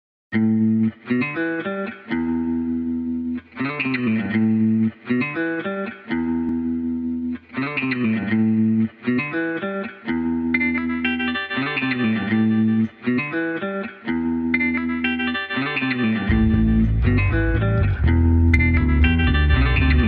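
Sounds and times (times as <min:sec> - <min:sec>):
plucked guitar phrase: 0:00.3 - 0:20.0.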